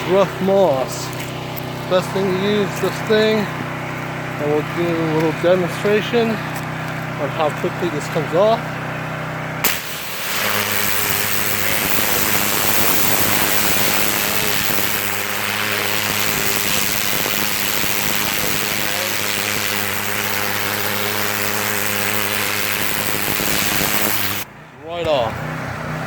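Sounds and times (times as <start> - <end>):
pressure washer spray hissing: 0.0 - 6.3, 9.6 - 24.4
pressure washer motor hum: 0.0 - 24.5.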